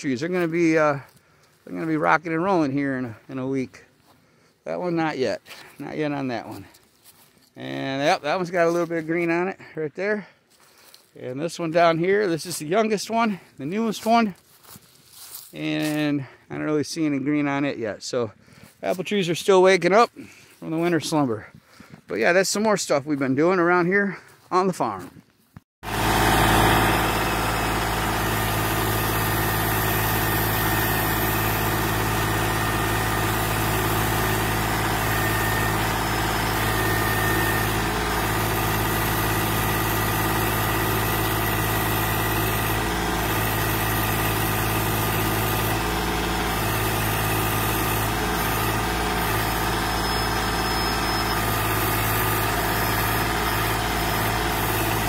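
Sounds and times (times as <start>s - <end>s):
tractor diesel engine running: 0.0s - 17.0s, 25.8s - 55.0s.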